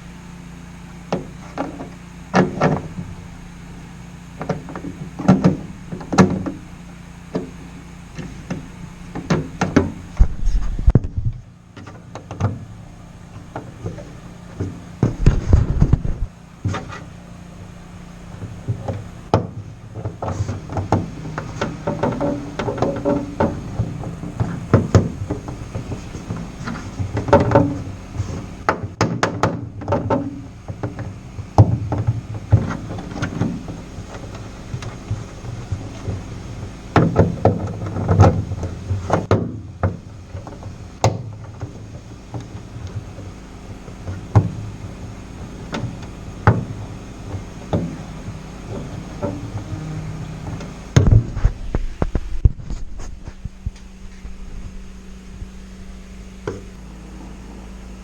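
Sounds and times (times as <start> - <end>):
faint steady hum: 0.0 - 58.0
hand tools and metal clattering: 0.0 - 58.0.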